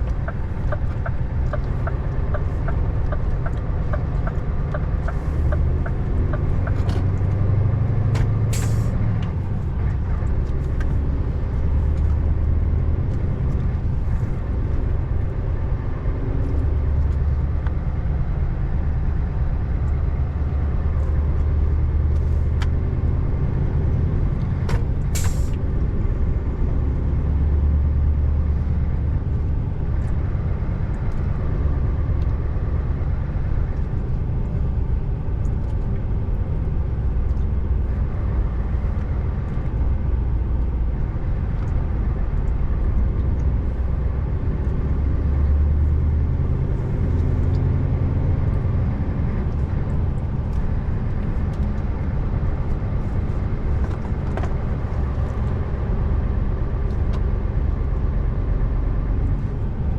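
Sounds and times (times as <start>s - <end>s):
road noise: 0.0s - 59.9s
truck engine droning: 0.0s - 59.9s.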